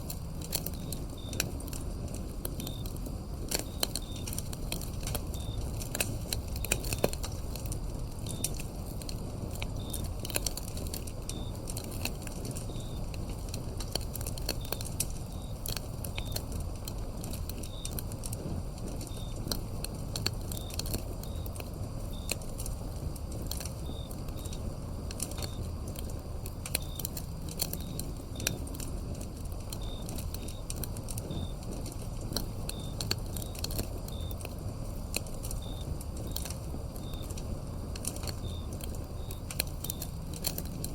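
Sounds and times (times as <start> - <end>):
crickets chirping: 0.0 - 40.9
low steady rumble: 0.0 - 40.9
wood fire crackling and popping: 0.0 - 40.9.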